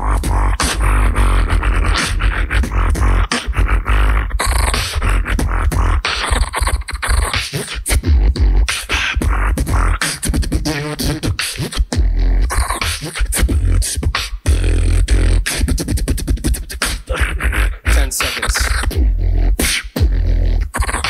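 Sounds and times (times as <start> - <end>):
beatboxing: 0.0 - 21.0
wavering pitched vocal tone: 0.0 - 21.0.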